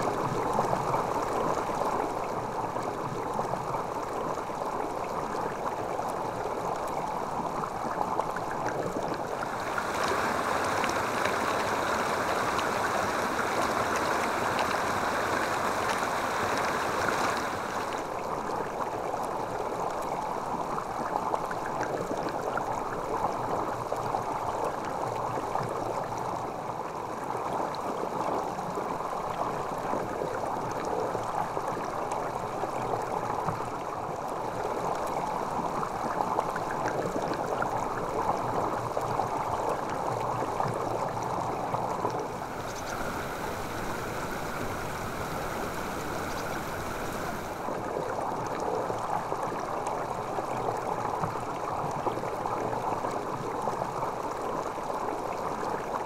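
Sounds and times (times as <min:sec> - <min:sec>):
stream water gurgling over rocks: 0:00.0 - 0:56.0.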